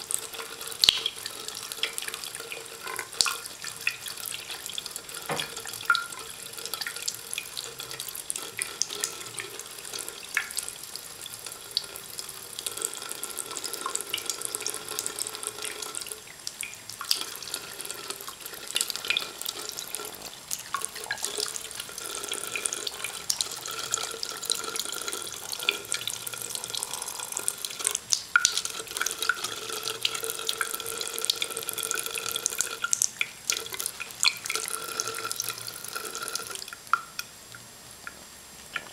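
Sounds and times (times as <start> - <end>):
tap water trickling into sink: 0.0 - 38.9.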